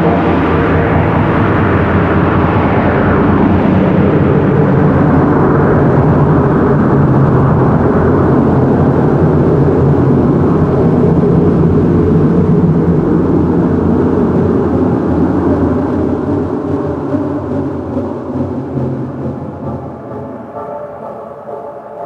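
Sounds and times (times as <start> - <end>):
electronic ambient drone: 0.0 - 22.0.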